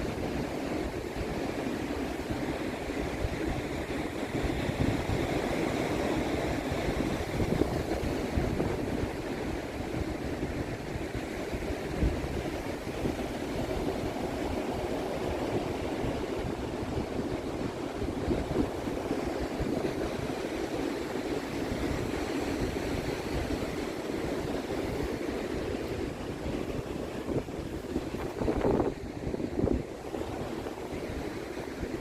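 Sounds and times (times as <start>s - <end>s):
sea waves washing onto beach: 0.0s - 32.0s
wind buffeting microphone: 0.0s - 32.0s.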